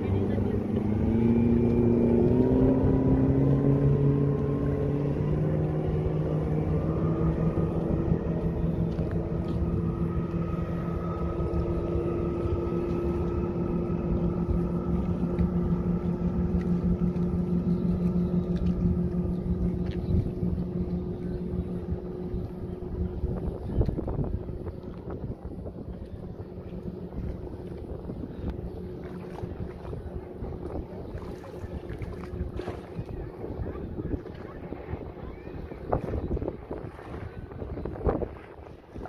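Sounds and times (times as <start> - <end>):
engine speeding up: 0.0 - 38.3.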